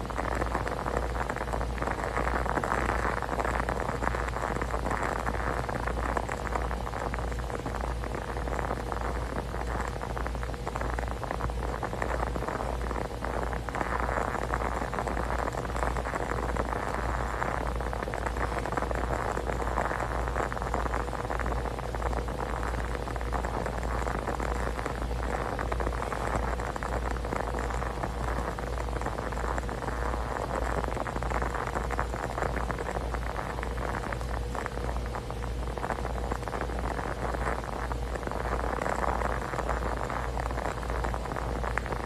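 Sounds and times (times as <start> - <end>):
faint steady hum: 0.0 - 42.0
room noise hiss: 0.0 - 42.0.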